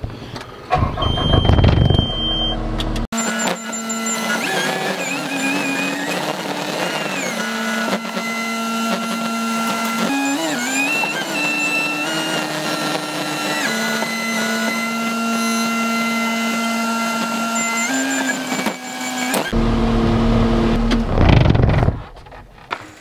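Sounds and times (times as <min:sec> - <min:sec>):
skid steer engine drone with whine: 0:00.0 - 0:23.0.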